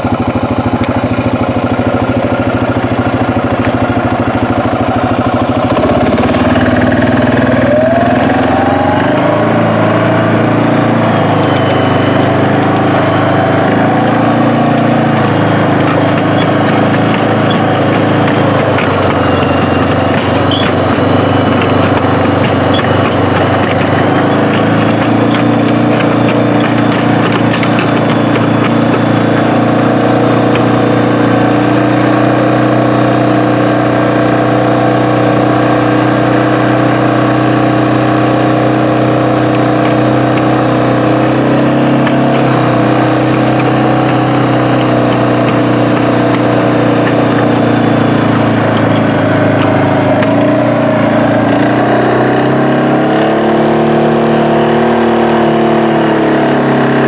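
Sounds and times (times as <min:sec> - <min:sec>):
engine idling: 0:00.0 - 0:52.3.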